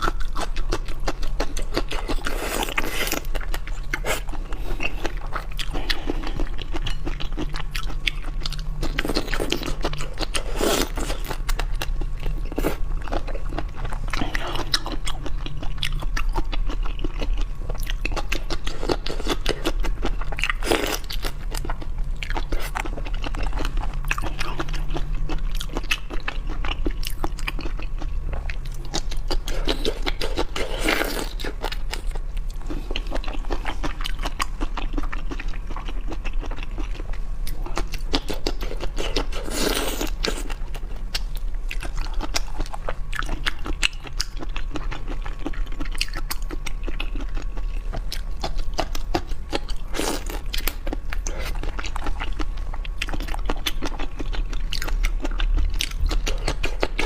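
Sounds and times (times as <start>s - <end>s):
crunching and wet chewing: 0.0s - 57.0s.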